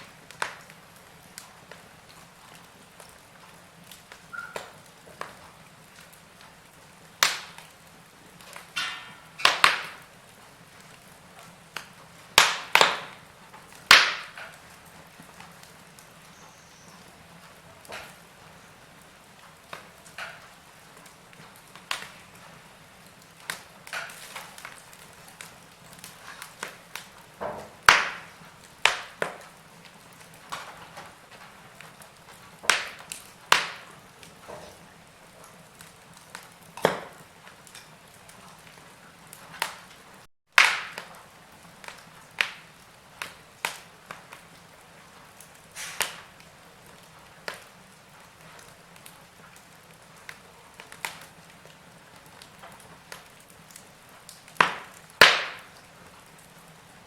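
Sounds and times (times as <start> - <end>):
faint steady hiss: 0.0 - 57.0
fire crackling and popping: 0.0 - 57.0.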